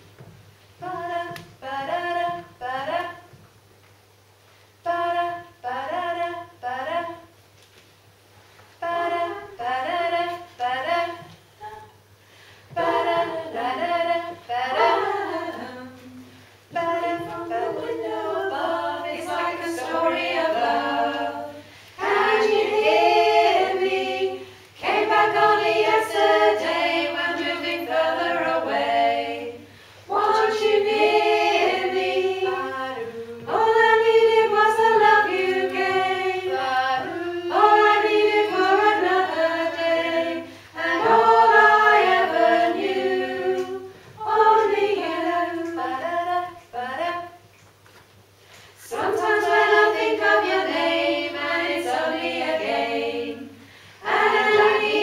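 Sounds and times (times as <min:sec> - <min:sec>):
women's choir singing a cappella: 0:00.8 - 0:03.4, 0:04.8 - 0:07.3, 0:08.8 - 0:12.0, 0:12.7 - 0:47.4, 0:48.8 - 0:55.0.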